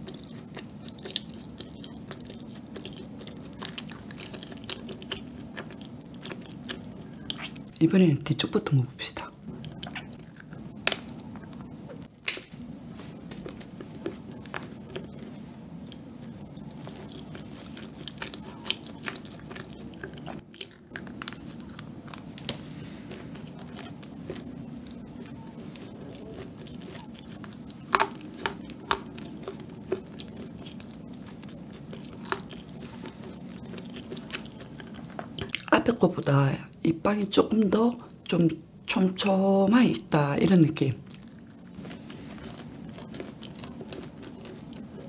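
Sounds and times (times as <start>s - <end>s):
chewing and biting: 0.0s - 7.7s, 9.5s - 11.7s, 13.3s - 35.7s, 41.1s - 45.0s.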